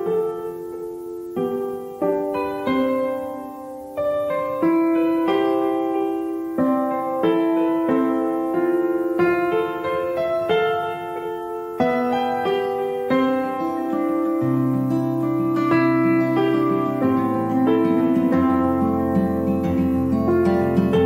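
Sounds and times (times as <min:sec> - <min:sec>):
gentle piano chords: 0:00.0 - 0:21.0.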